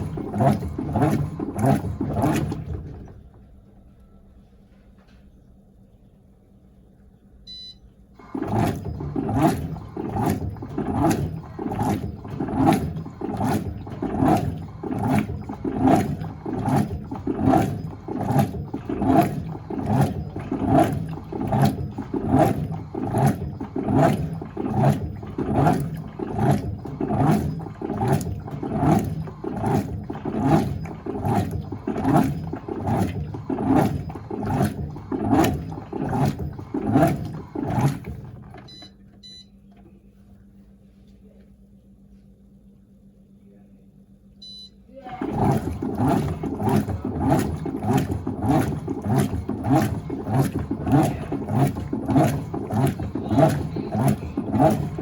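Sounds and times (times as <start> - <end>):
washing machine churning water: 0.0 - 3.9, 7.5 - 40.2, 44.4 - 55.0.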